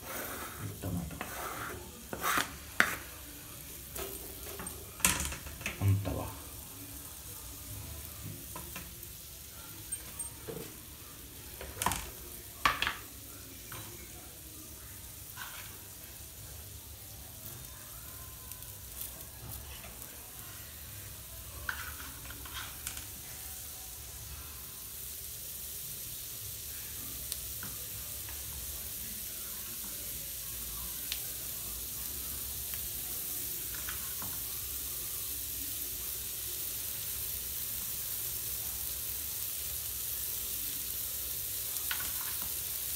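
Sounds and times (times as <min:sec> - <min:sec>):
onions sizzling in butter: 0:00.0 - 0:42.9.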